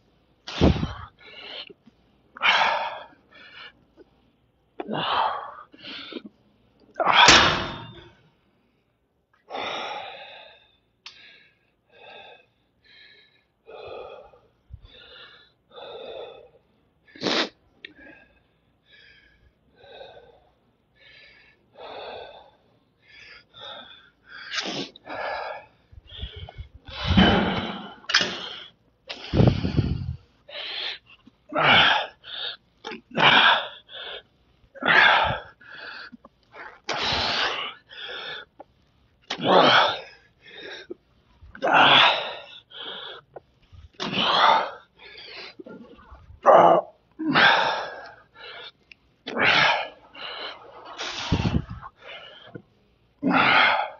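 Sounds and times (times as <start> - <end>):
man breathing heavily: 0.5 - 1.8, 2.4 - 4.1, 9.4 - 38.7, 39.5 - 53.9.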